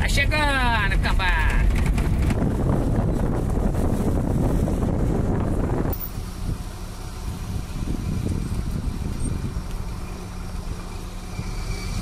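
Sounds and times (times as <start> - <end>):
car engine hum: 0.0 - 12.0
tyre and road noise: 0.0 - 12.0.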